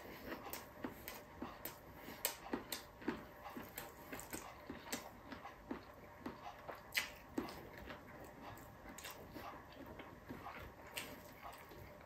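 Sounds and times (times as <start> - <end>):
person chewing wetly: 0.0 - 12.0.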